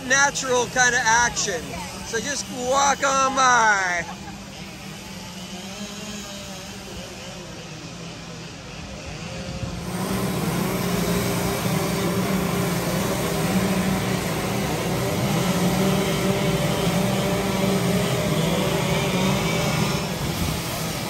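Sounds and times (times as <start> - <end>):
chainsaw engine running: 0.0 - 21.0.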